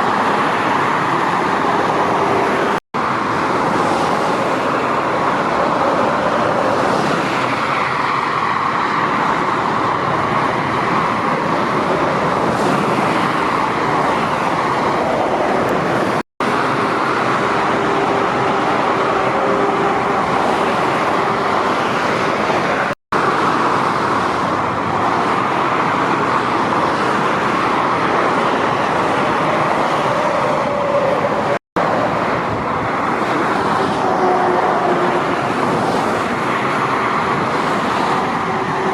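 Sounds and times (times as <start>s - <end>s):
motorway traffic rushing: 0.0s - 38.9s.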